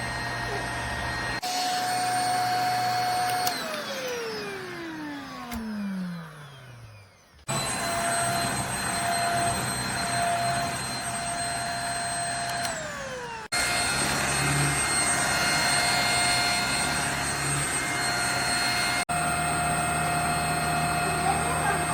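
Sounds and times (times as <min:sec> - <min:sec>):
vacuum cleaner whining: 0:00.0 - 0:21.9.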